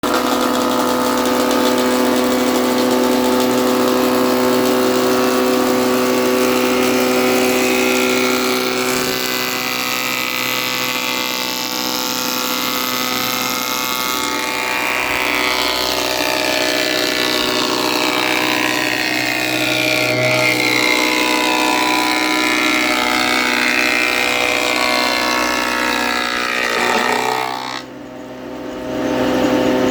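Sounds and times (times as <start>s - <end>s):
power tool motor humming: 0.0s - 27.9s.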